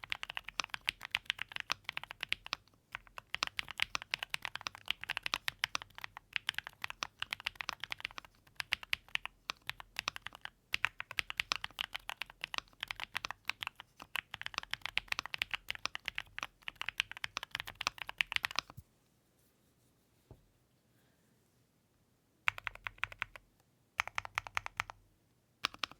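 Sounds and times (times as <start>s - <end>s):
mechanical keyboard typing: 0.0s - 18.7s, 22.5s - 23.4s, 24.0s - 25.0s, 25.6s - 25.9s.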